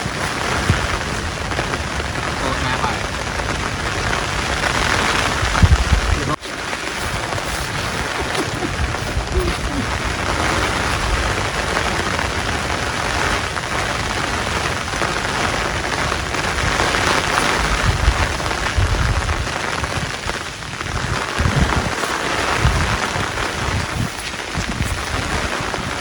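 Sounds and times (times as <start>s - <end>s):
heavy rain falling: 0.0s - 26.0s
low rumbles: 0.0s - 26.0s.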